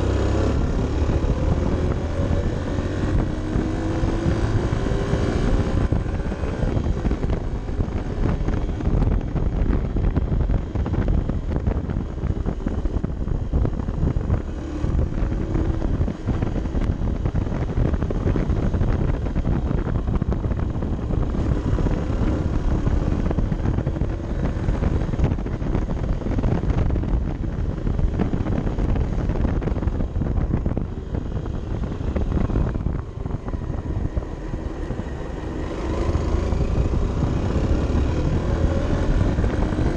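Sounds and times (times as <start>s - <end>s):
motorcycle engine revving: 0.0s - 39.9s
wind rumble on microphone: 0.0s - 39.9s.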